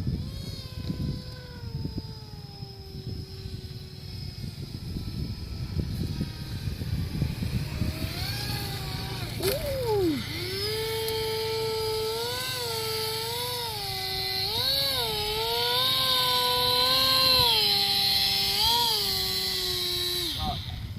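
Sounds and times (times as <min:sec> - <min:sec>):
model plane motor whining: 0:00.0 - 0:20.9.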